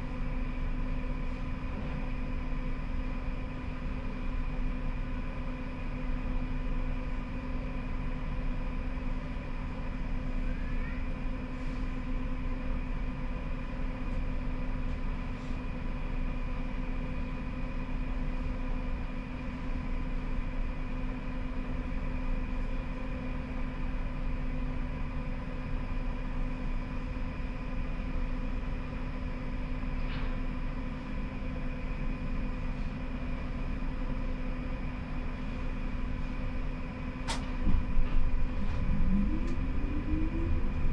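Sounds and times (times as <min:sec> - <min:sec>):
tram electrical hum: 0:00.0 - 0:40.9
tram running rumble: 0:00.0 - 0:40.9.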